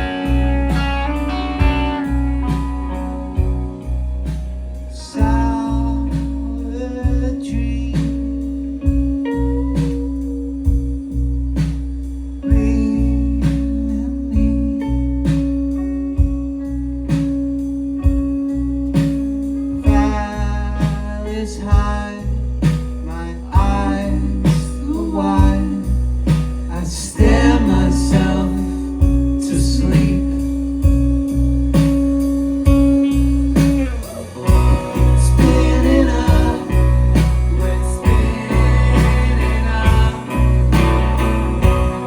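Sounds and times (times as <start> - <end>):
rock band playing live: 0.0 - 42.0.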